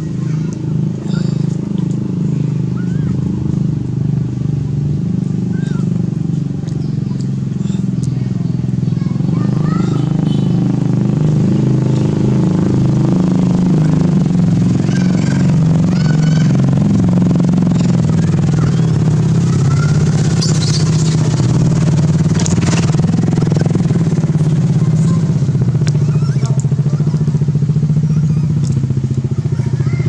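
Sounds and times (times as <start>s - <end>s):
small engine droning: 0.0s - 30.0s.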